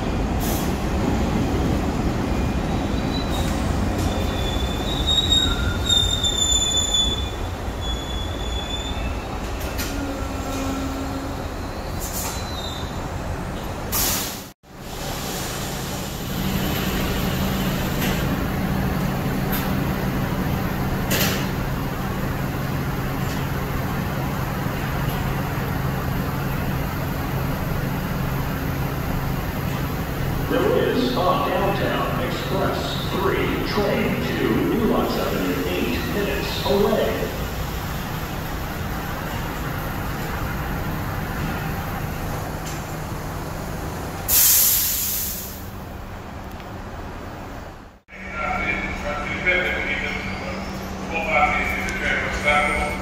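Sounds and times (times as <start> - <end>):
subway train wheels squealing: 0.0 - 45.8, 48.2 - 53.0
subway train low hum: 0.0 - 53.0.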